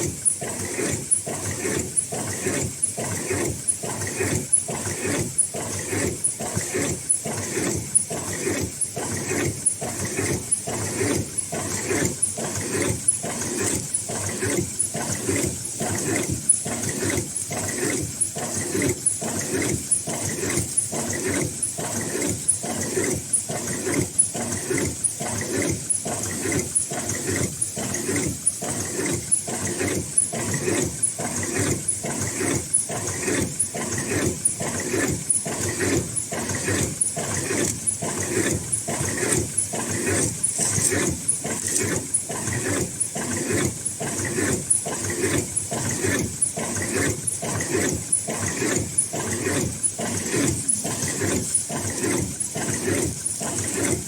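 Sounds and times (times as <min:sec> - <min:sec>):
rhythmic machine clatter: 0:00.0 - 0:54.0.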